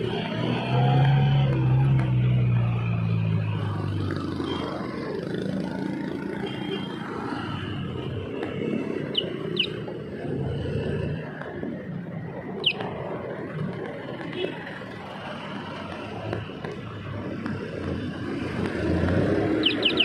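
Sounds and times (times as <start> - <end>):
hum of traffic: 0.0 - 20.0
vehicle engine humming: 0.0 - 20.0.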